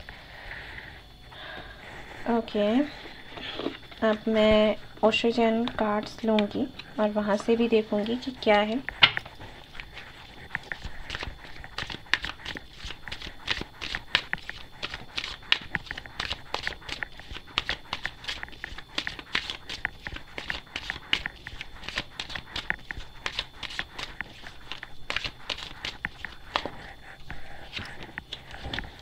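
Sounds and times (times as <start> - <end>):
cards being shuffled by hand: 5.6 - 29.0.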